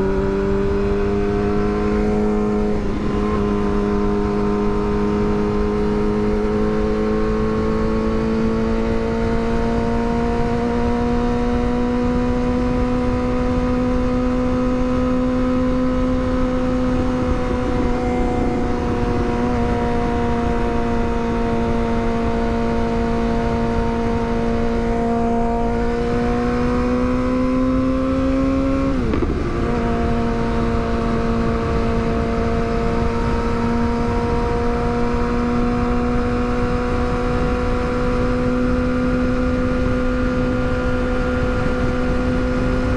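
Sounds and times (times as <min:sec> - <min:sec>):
motorcycle engine running: 0:00.0 - 0:42.9
wind rush on microphone: 0:00.0 - 0:42.9.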